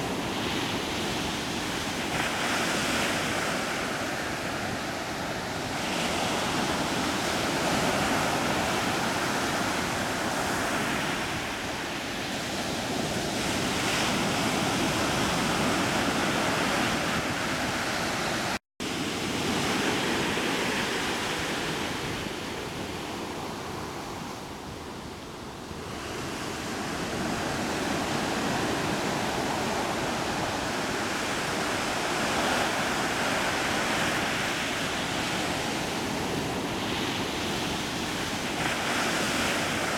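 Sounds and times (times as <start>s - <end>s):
surf on choppy sea: 0.0s - 39.9s
wind: 0.0s - 39.9s.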